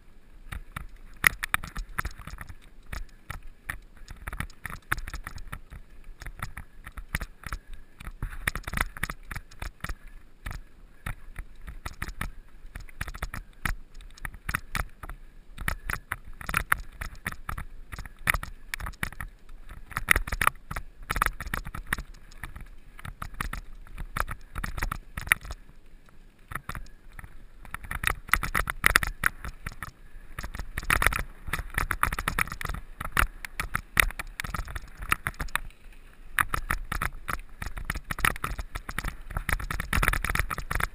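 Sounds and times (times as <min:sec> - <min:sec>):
mountain bike rattling over stones: 0:00.5 - 0:25.7, 0:26.4 - 0:40.9.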